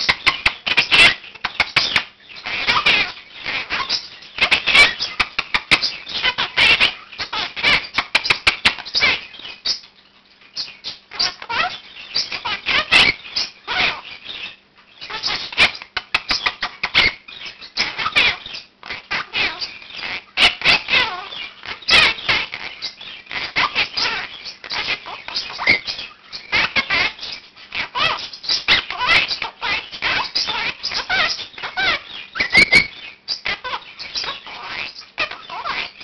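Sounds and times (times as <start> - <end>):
parakeet chattering and squawking: 0.0 - 9.9, 10.6 - 36.0.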